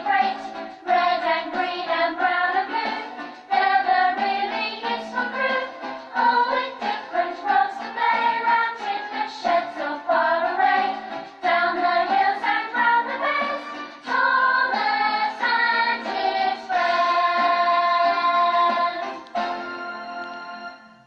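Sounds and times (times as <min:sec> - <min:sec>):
choir singing children's song: 0:00.0 - 0:19.8
backing music: 0:00.0 - 0:21.0.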